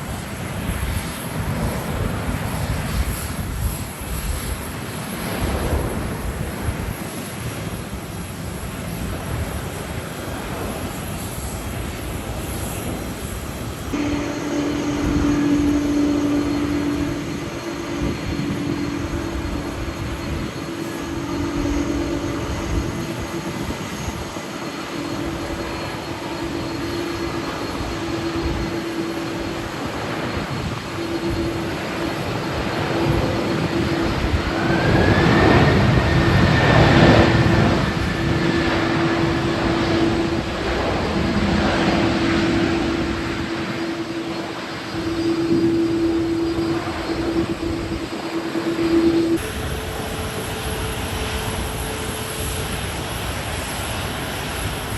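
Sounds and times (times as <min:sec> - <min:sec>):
jet airliner engines: 0:00.0 - 0:54.9
rising jet whine: 0:00.0 - 0:54.9
strong wind: 0:00.0 - 0:54.9.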